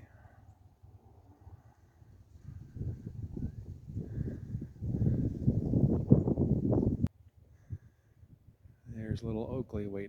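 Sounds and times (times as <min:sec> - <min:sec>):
wind buffeting microphone: 0:00.8 - 0:09.8.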